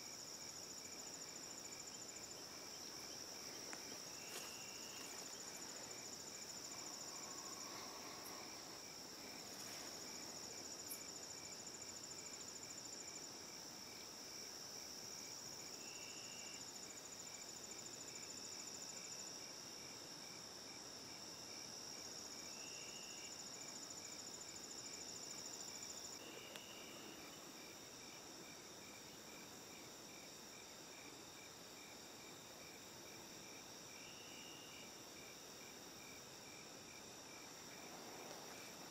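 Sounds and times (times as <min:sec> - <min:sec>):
lower cricket chirp: 0:00.0 - 0:38.9.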